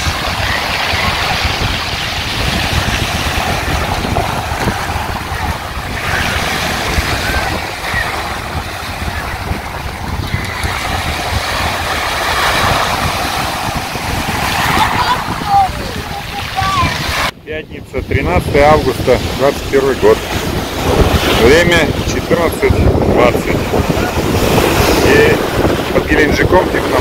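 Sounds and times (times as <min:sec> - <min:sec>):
sea surf breaking: 0:00.0 - 0:27.0
wind buffeting microphone: 0:00.0 - 0:27.0.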